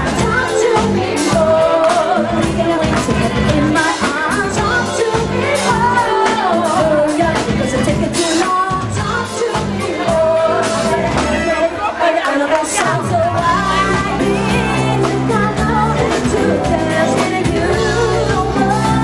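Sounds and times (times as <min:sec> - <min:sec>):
live band playing a song: 0:00.0 - 0:19.0
person singing lead vocal: 0:00.0 - 0:19.0.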